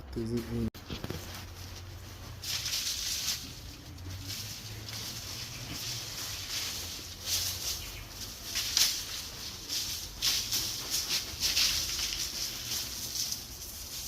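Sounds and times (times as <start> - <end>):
bedding scraped and swept: 0.8 - 14.0.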